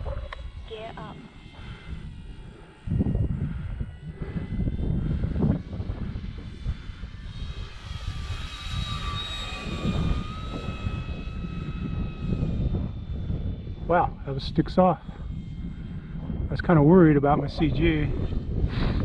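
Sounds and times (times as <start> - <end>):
model plane motor whining: 0.0 - 19.0
wind buffeting microphone: 0.0 - 19.0.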